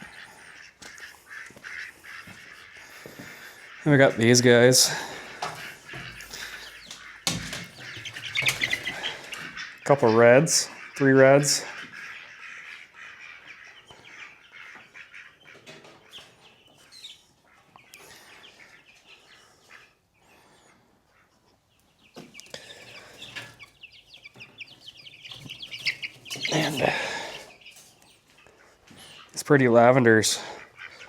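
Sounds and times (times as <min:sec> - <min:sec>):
chicks peeping and cheeping: 0:00.0 - 0:31.0.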